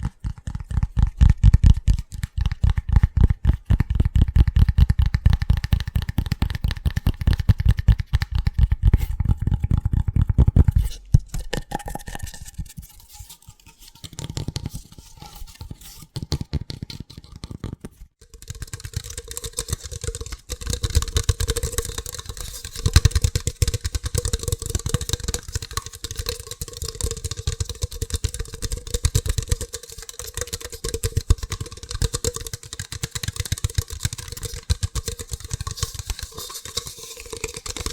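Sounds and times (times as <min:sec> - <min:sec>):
fast tapping on hard objects: 0:00.0 - 0:12.2, 0:16.2 - 0:37.9.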